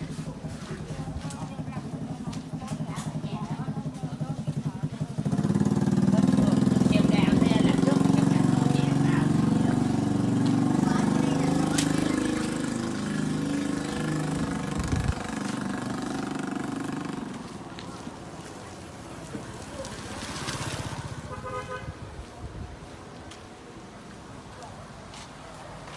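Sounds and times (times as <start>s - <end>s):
engine running: 0.0s - 21.4s.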